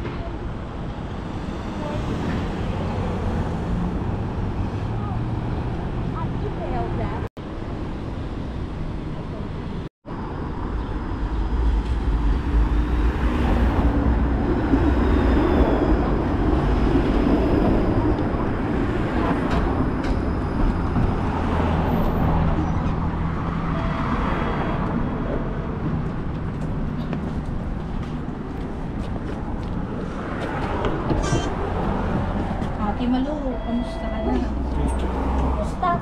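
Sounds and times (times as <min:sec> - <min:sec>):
streetcar rumbling on track: 0:00.0 - 0:36.0.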